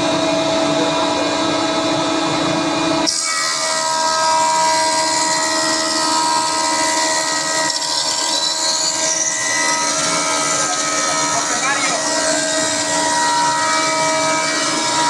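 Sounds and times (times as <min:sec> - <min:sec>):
thickness planer whining: 0:00.0 - 0:15.0.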